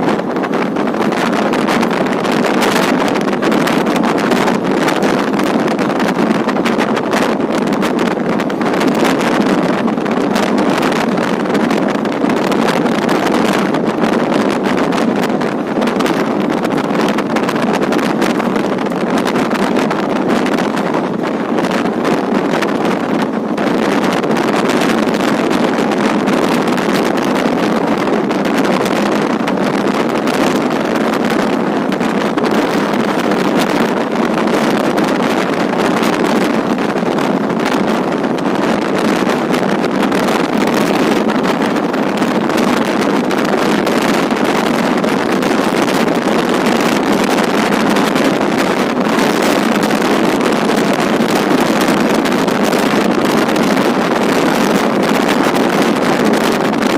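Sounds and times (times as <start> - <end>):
wind on microphone: 0.0 - 56.9.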